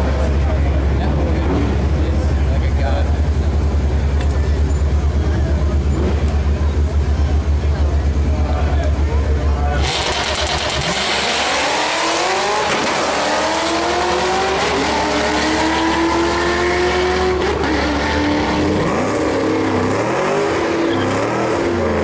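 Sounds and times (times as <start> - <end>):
cars accelerating at full throttle: 0.0 - 22.0.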